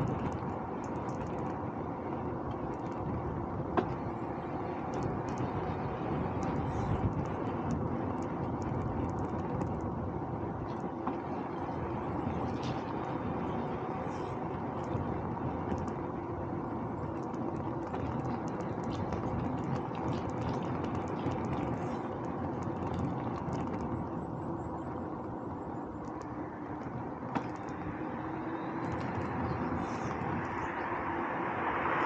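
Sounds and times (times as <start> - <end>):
bicycle tyres on road: 0.0 - 32.0
wind rushing past microphone: 0.0 - 32.0.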